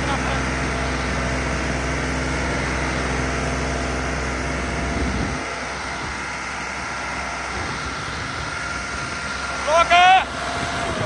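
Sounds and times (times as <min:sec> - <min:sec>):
tractor diesel engine drone: 0:00.0 - 0:11.0.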